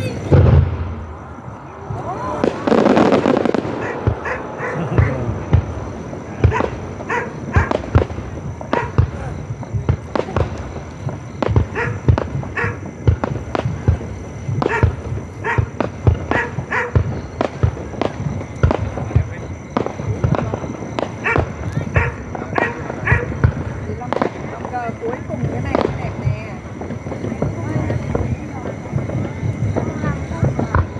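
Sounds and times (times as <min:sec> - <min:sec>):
fireworks bangs and pops: 0:00.0 - 0:30.9.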